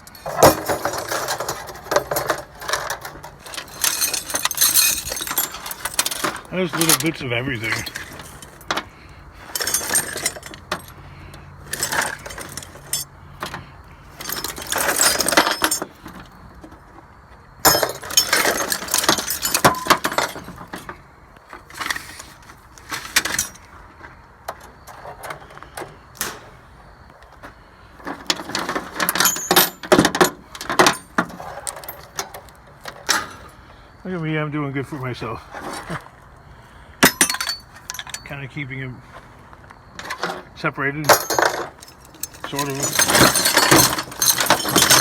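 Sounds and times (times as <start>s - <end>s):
scrap metal clattering: 0.0s - 16.9s, 17.6s - 24.1s, 27.4s - 33.8s, 35.3s - 36.2s, 36.8s - 38.4s, 39.9s - 45.0s.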